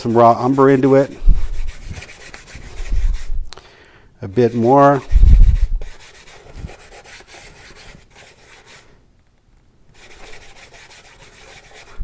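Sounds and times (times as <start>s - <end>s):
paintbrush scrubbing on palette: 0.0s - 3.4s, 4.4s - 9.0s, 9.9s - 12.0s.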